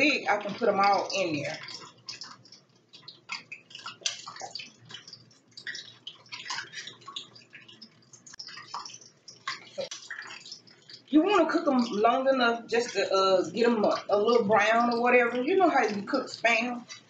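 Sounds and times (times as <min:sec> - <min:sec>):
meat frying in grease: 0:00.0 - 0:17.0.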